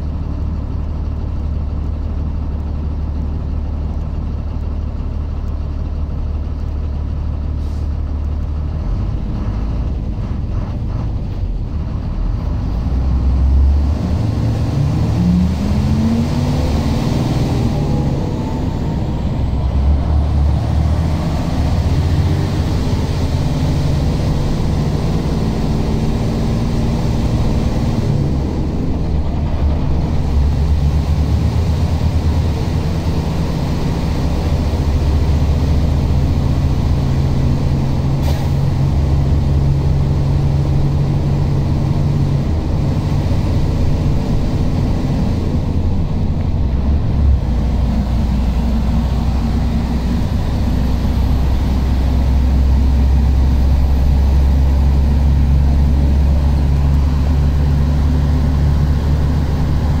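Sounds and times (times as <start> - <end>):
vehicle engine and road noise: 0.0 - 60.0.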